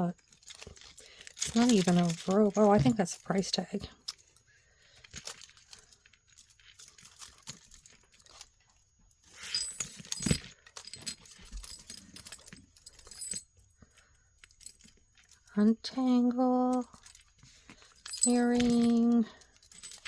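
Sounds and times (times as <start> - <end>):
jewelry chain jingling: 0.0 - 20.0.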